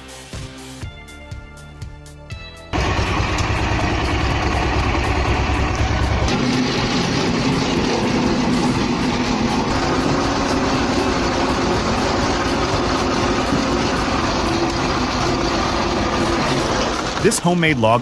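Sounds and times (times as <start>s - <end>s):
tractor engine running: 2.7s - 18.0s.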